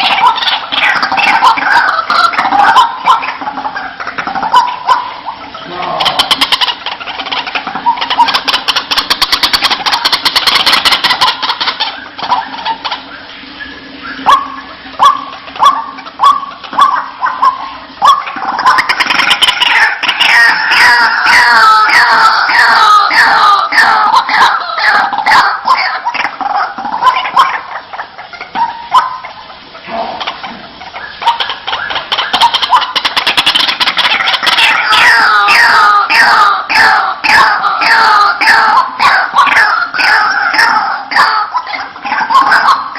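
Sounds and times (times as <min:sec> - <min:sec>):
waterhen rapid chatter: 0:00.0 - 0:42.9.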